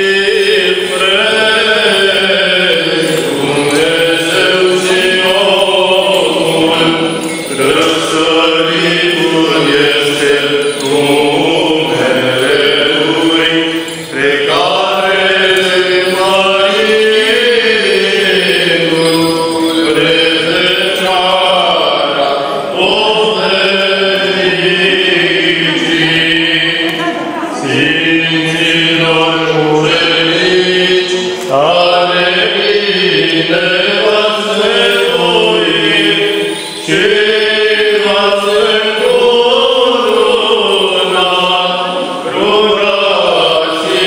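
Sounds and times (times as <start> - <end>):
person chanting a hymn: 0.0 - 44.0.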